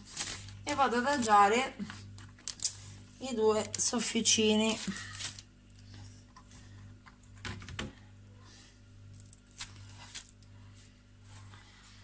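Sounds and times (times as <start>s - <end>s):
baking paper rustling and clicking: 0.0s - 8.0s, 9.1s - 11.6s
low steady hum: 0.0s - 12.0s.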